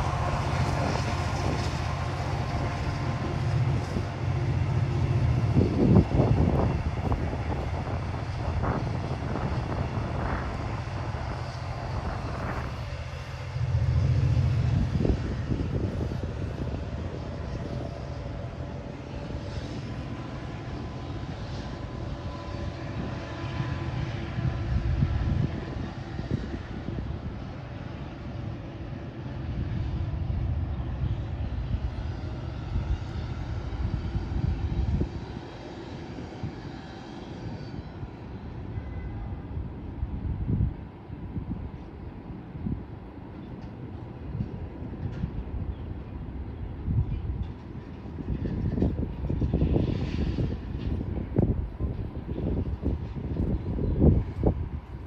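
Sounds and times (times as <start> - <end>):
passenger train rumbling: 0.0 - 55.0.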